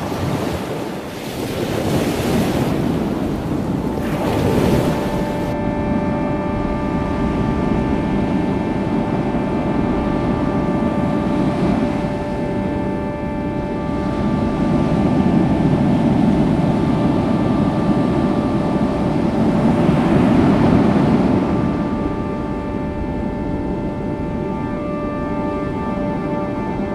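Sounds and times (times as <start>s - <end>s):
held humming tones: 0.0s - 26.9s.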